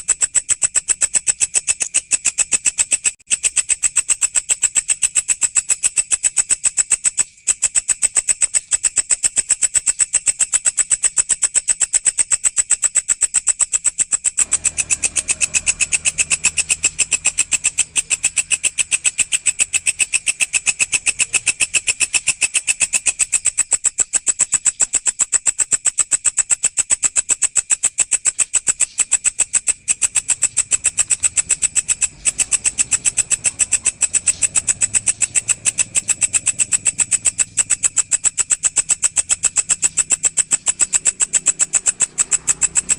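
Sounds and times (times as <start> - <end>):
grasshopper calling: 0.0 - 42.9.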